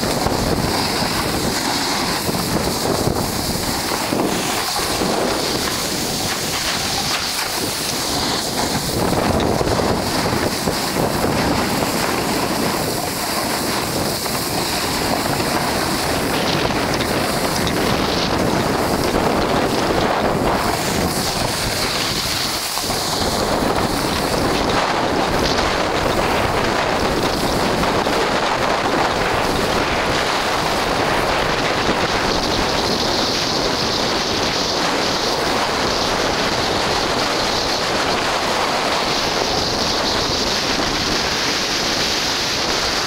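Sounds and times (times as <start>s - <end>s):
snowboard sliding on snow: 0.0s - 43.0s
wind on microphone: 0.0s - 43.0s.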